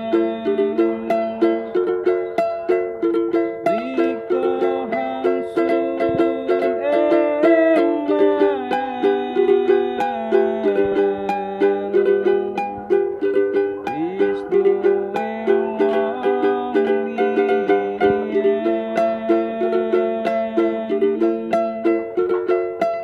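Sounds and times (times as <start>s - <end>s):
man singing: 0.0s - 1.8s, 3.6s - 22.0s
ukulele strumming: 0.0s - 23.0s.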